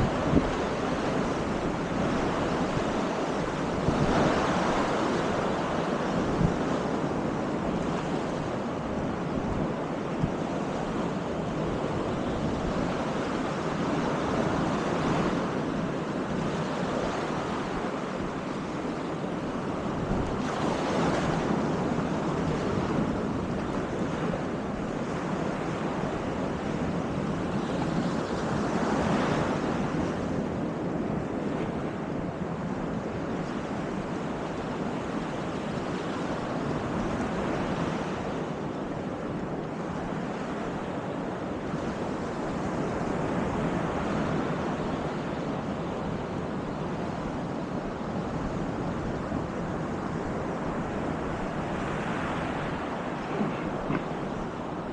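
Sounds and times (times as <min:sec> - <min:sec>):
waves breaking on beach: 0:00.0 - 0:54.9
wind buffeting microphone: 0:00.0 - 0:54.9.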